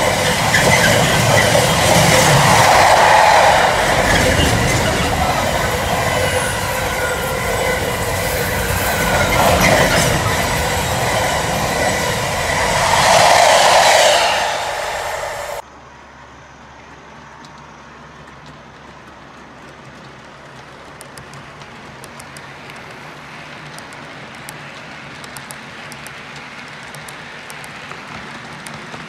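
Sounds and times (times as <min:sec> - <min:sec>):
wheels clicking over rail joints: 0:00.0 - 0:12.4, 0:17.4 - 0:29.0.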